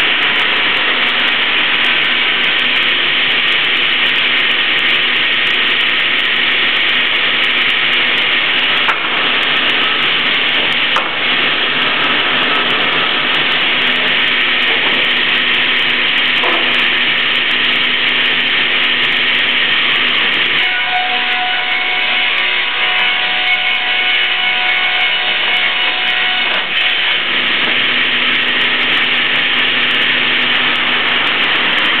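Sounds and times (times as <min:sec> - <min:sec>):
edging saw running loudly: 0:00.0 - 0:32.0
steady hum: 0:00.0 - 0:32.0.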